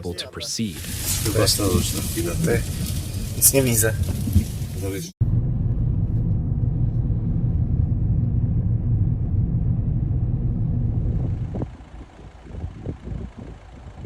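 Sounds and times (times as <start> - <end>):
motor vehicle rumbling: 0.6 - 14.0.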